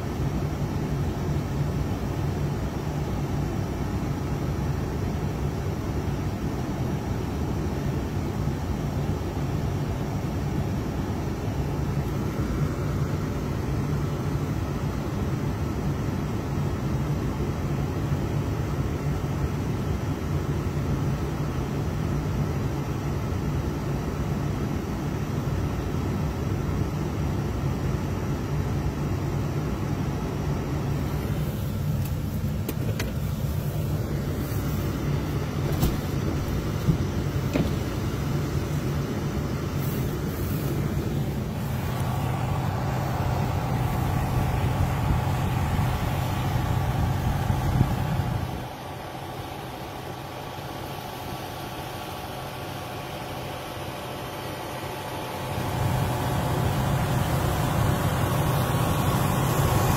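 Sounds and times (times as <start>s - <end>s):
engine and road noise in vehicle cab: 0.0s - 59.9s.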